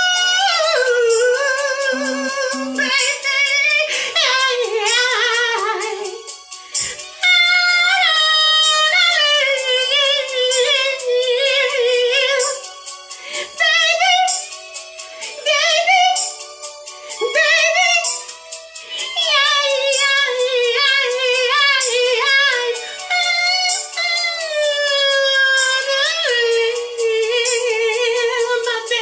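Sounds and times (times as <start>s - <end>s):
woman singing with vibrato: 0.0s - 12.6s, 13.3s - 14.5s, 15.3s - 16.3s, 17.2s - 18.2s, 18.9s - 29.0s
music with steady beat: 0.0s - 29.0s.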